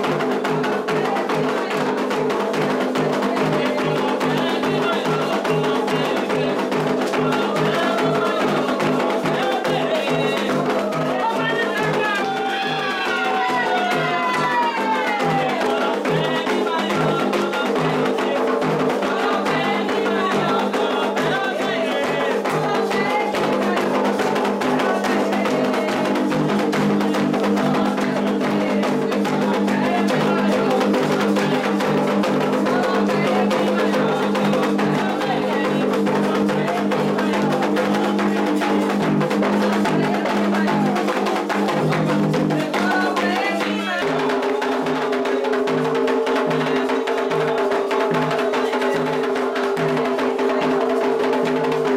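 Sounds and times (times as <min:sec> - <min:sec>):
agogo bell: 0:00.0 - 0:51.9
hand drums playing: 0:00.0 - 0:51.9
people singing: 0:00.0 - 0:51.9.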